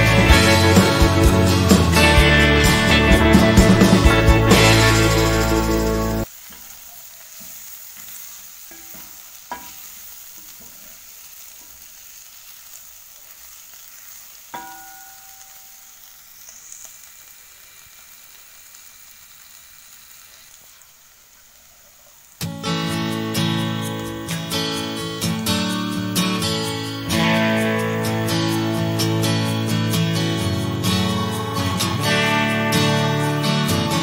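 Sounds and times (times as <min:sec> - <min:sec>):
liver and vegetables sizzling: 0:00.0 - 0:34.0.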